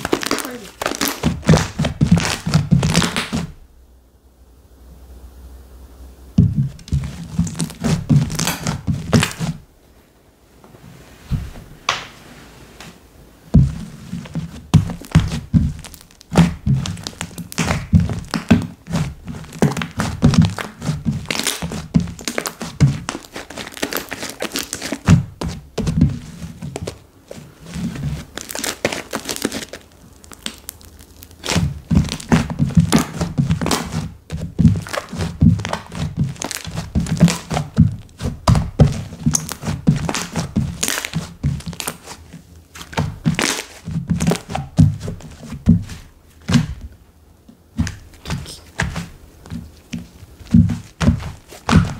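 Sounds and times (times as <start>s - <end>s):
hands squishing slime: 0.0s - 3.5s, 6.4s - 9.6s, 13.6s - 46.9s, 47.7s - 51.9s.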